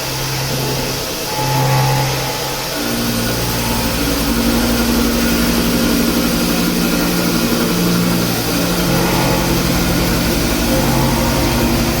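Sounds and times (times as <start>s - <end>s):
machining centres humming: 0.0s - 12.0s.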